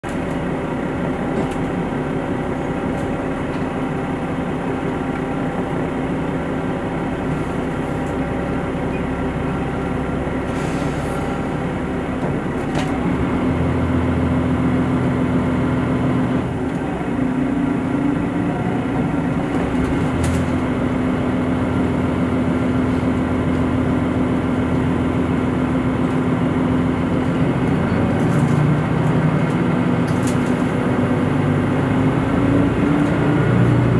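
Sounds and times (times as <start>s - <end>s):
diesel train engine: 0.0s - 33.9s.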